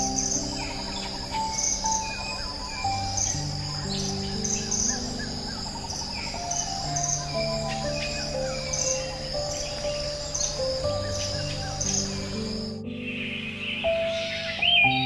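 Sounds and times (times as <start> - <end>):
bird chirps: 0.0 - 15.0
insects trilling: 0.0 - 15.0
soft ambient music: 0.0 - 15.0.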